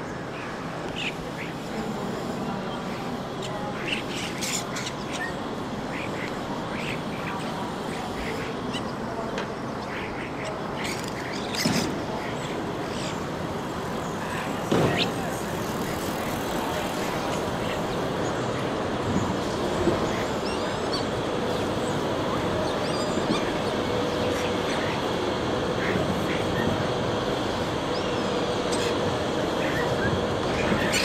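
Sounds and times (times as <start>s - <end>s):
city street traffic noise: 0.0s - 31.0s
starlings chirping and whistling: 2.7s - 9.0s, 9.7s - 31.0s.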